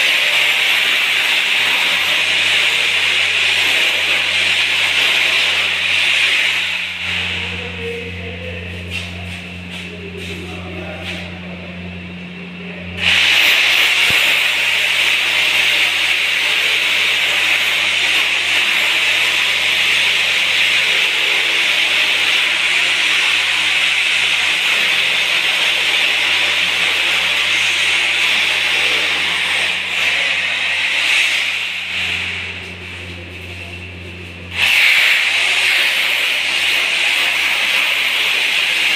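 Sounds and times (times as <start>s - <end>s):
electric drill boring into concrete: 0.0s - 7.7s, 13.0s - 32.5s, 34.5s - 38.9s.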